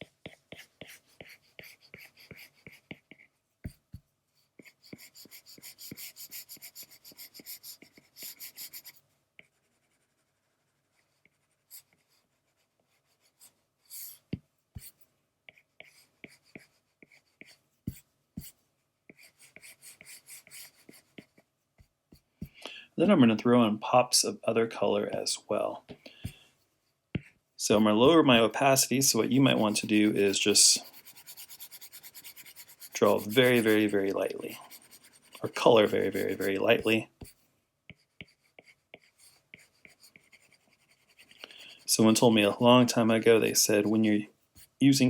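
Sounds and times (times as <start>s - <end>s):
pencil shading strokes: 0.0s - 22.4s, 27.2s - 42.6s.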